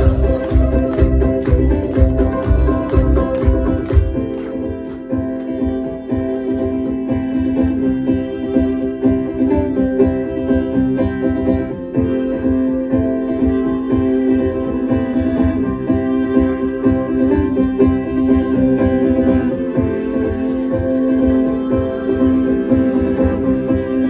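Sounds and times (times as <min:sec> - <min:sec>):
plucked guitar music: 0:00.0 - 0:24.0.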